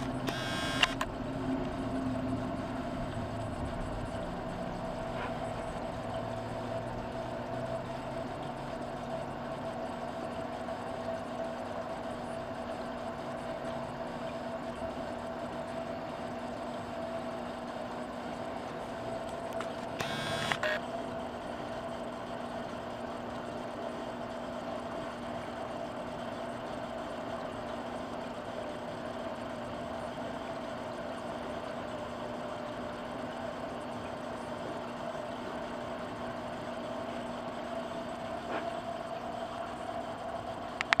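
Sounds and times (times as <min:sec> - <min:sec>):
aquarium pump humming: 0:00.0 - 0:41.0.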